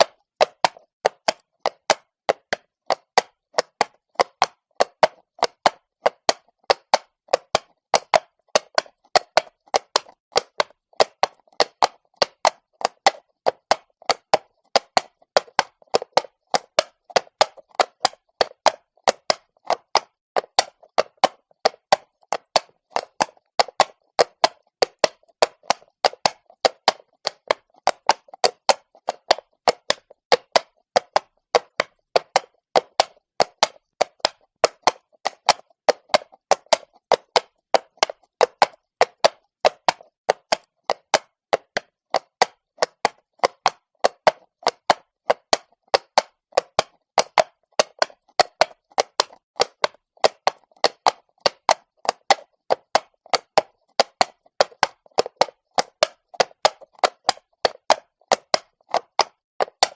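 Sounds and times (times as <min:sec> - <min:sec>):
horse hooves clip-clopping on stone: 0:00.0 - 0:59.9.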